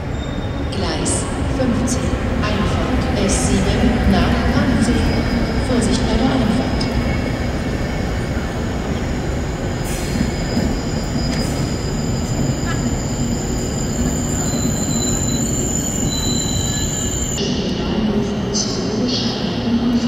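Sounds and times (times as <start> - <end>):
steel wheels rumbling on rail: 0.0 - 17.4.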